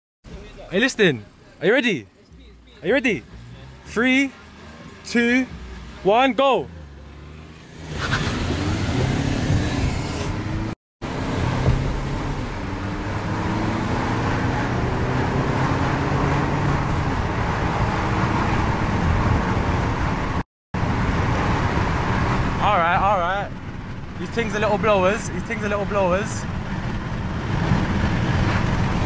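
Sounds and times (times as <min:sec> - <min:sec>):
road and wind noise: 0:00.2 - 0:29.0
car engine accelerating: 0:02.2 - 0:29.0.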